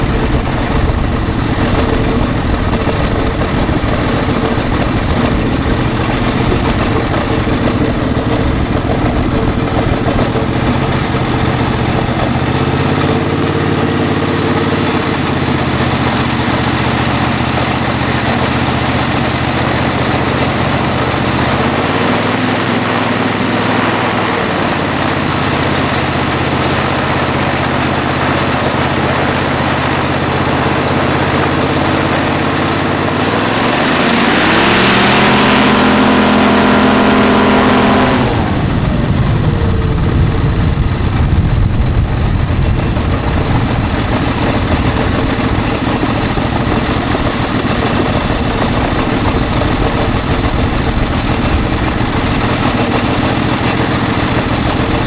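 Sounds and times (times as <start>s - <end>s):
propeller rush: 0.0s - 55.0s
trike engine running and revving: 0.0s - 55.0s.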